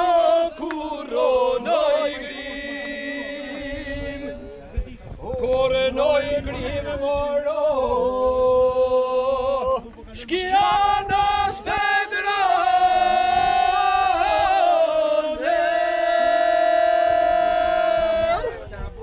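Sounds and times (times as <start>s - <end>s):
men singing unaccompanied in parts: 0.0s - 4.6s, 5.2s - 18.6s.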